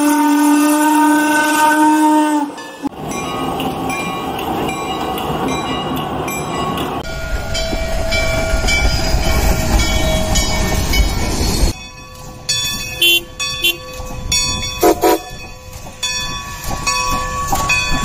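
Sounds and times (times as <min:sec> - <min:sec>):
diesel locomotive running: 0:00.0 - 0:18.0
steam locomotive rumbling past: 0:00.0 - 0:18.0.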